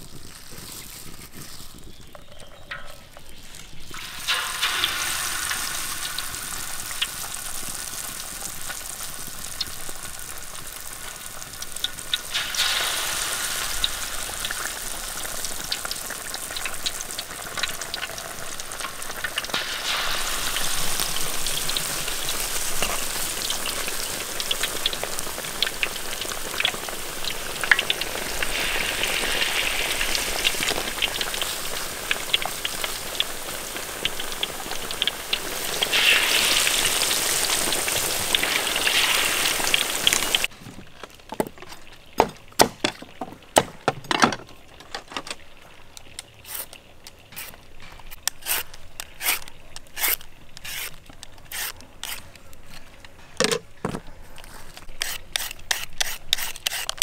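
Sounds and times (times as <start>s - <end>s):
fish sizzling in hot oil: 0.0s - 41.0s, 45.4s - 52.2s, 54.8s - 57.0s.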